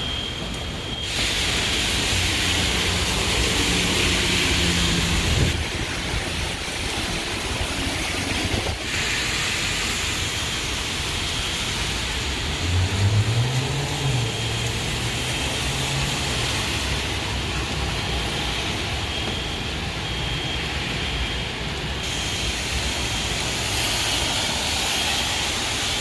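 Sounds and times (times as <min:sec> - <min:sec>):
rain and wet tyres hissing: 0:00.0 - 0:26.0.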